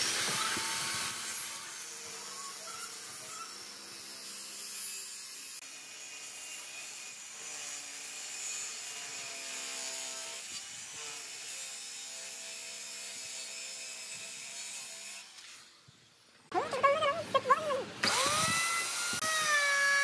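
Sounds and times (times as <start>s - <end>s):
circular saw cutting wood: 0.0s - 15.9s, 18.0s - 20.0s.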